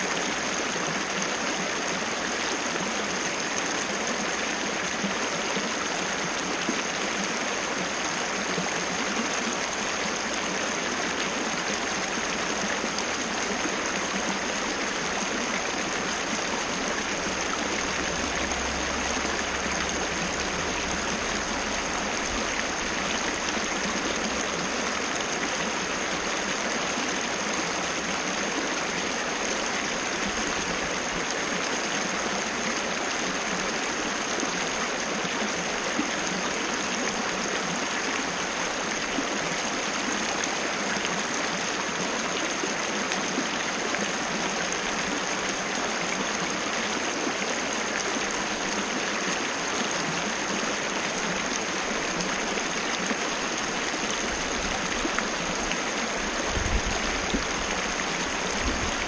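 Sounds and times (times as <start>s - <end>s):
waterfall cascading: 9.0s - 59.0s.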